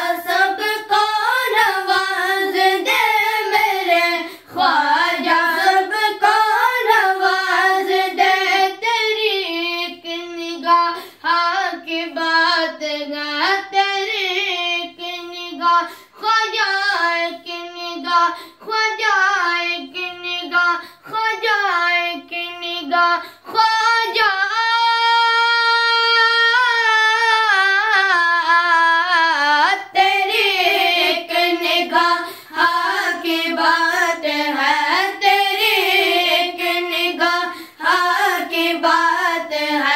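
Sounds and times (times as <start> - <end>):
boys singing in unison: 0.0 - 39.9.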